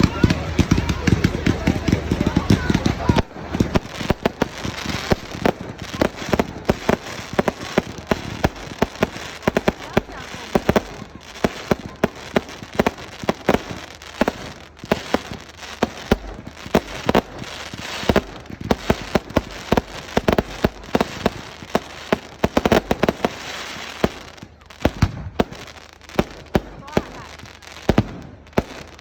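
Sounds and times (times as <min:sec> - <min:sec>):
fireworks banging: 0:00.0 - 0:29.0
fireworks crackling hiss: 0:00.0 - 0:29.0.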